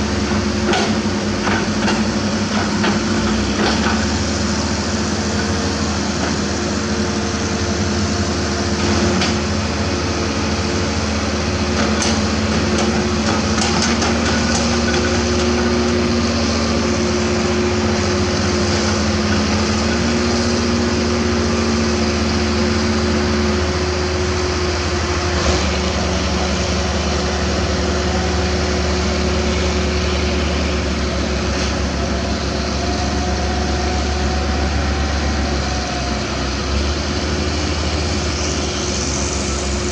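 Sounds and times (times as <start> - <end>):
excavator diesel engine running: 0.0 - 39.9
hydraulic whine: 0.0 - 39.9.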